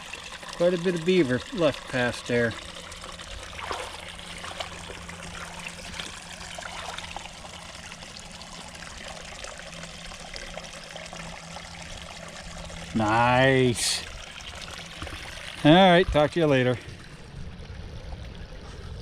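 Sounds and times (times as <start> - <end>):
water trickling: 0.0 - 19.0.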